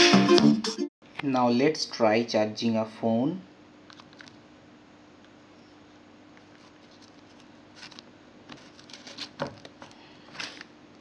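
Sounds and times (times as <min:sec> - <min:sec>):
faint steady hum: 0:01.0 - 0:11.0.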